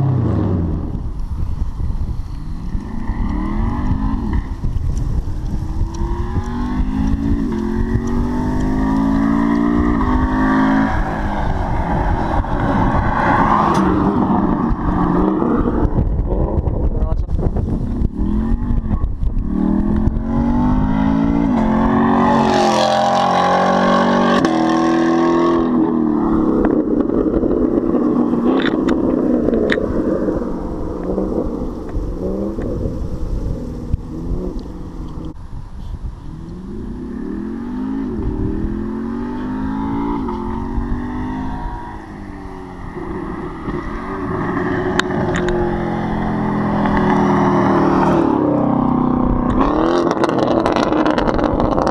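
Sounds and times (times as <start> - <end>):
loud car engine revving: 5.5 - 16.7, 18.0 - 35.4, 36.3 - 51.9.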